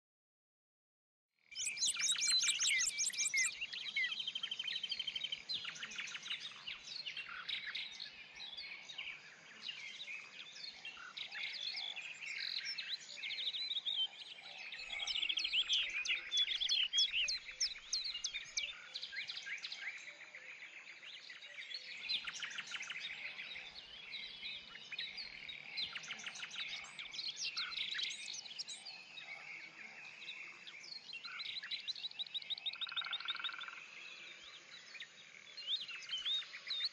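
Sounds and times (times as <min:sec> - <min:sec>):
songbirds singing and chirping: 0:01.4 - 0:36.9.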